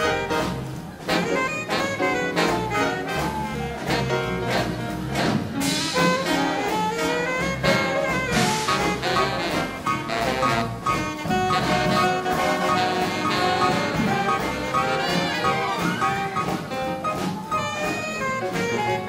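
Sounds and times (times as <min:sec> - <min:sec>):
big band swing jazz: 0:00.0 - 0:19.0.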